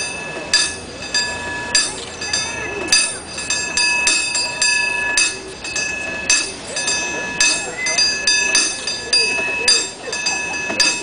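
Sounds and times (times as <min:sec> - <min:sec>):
cable car bell clanging: 0:00.0 - 0:11.0.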